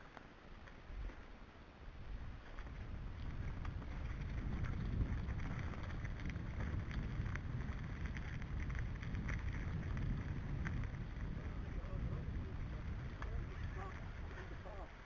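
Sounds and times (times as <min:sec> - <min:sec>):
wind rumbling on microphone: 0:00.0 - 0:15.0
tyres rattling over gravel: 0:02.6 - 0:15.0.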